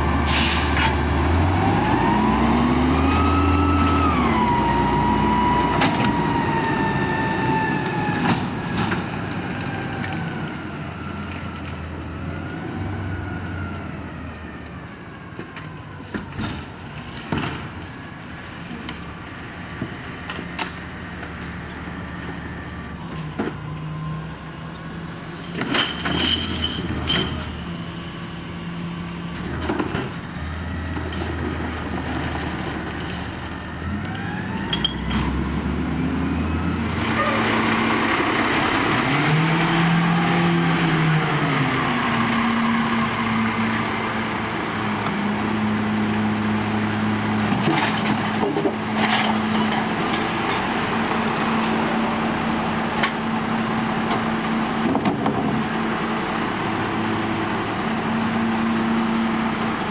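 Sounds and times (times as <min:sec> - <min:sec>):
garbage truck diesel engine: 0:00.0 - 0:59.9.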